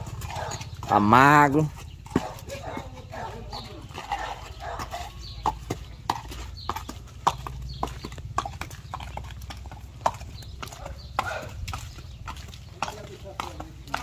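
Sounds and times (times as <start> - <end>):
hooves clip-clopping on stone: 0.0 - 14.0.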